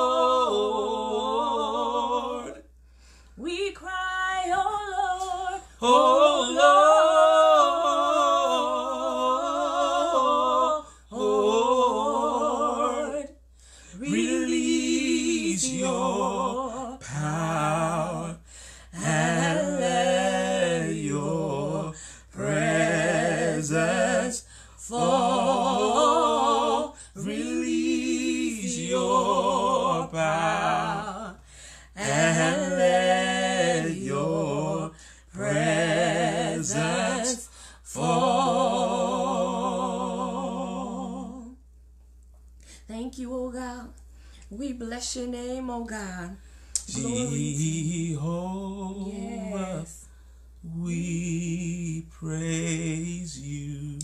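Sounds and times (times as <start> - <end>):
man and woman singing unaccompanied: 0.0 - 2.7, 3.3 - 41.6, 46.7 - 54.0.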